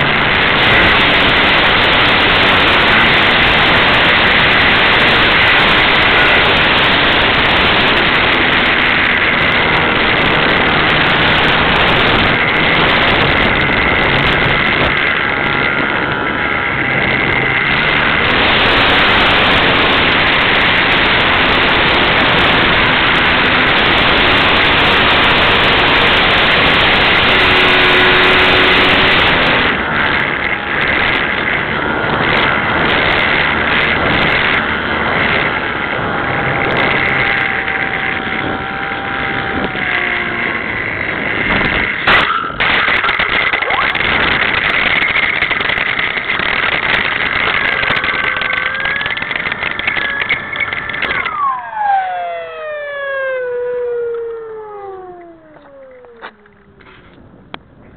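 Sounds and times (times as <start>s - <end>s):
electric motor whine: 0.0s - 42.1s, 43.3s - 57.4s
wind buffeting microphone: 0.0s - 57.9s.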